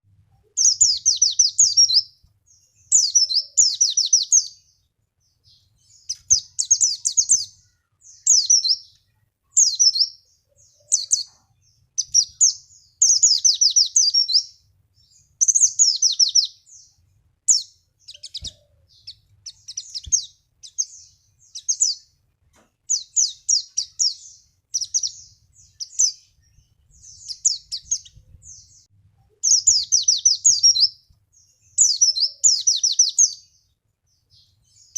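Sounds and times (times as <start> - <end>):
bird twittering: 0.6 - 4.7, 5.4 - 9.0, 9.6 - 16.9, 17.5 - 22.1, 22.9 - 31.0, 31.6 - 33.5.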